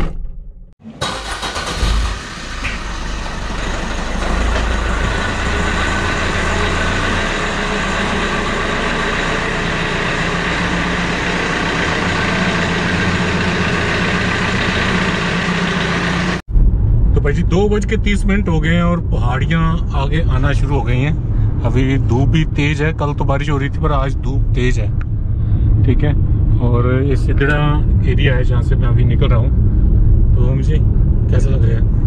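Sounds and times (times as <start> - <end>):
car engine and road noise: 0.0 - 32.0.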